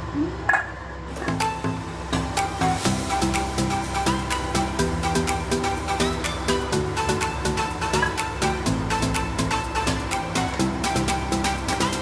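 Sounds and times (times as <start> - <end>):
background music: 1.1 - 12.0.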